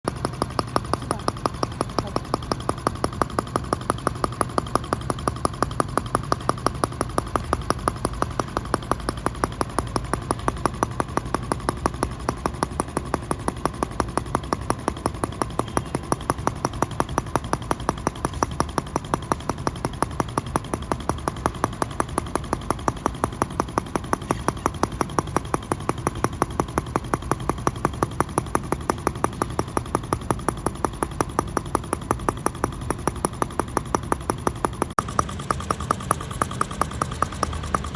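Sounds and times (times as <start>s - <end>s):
model engine popping: 0.0s - 37.9s.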